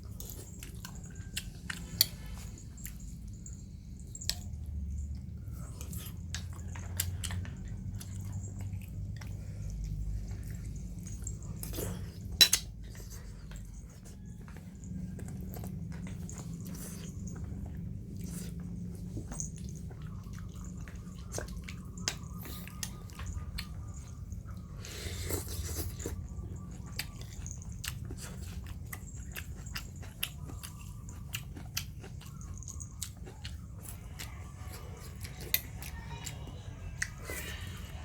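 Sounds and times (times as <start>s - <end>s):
puppies chewing: 0.0s - 38.0s
steady low hum: 0.0s - 38.0s.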